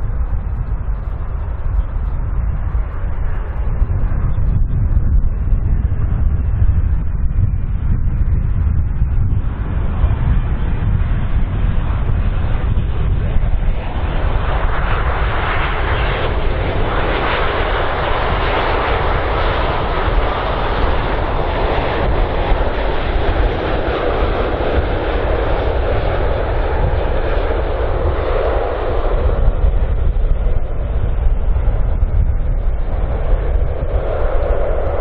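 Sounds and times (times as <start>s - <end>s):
jet engines passing low: 0.0s - 35.0s
wind rumble on microphone: 0.0s - 35.0s.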